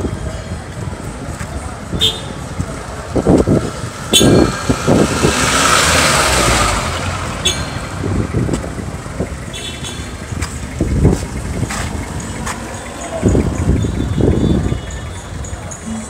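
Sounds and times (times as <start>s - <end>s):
low traffic rumble: 0.0s - 16.0s
vehicle engine passing: 2.4s - 15.3s.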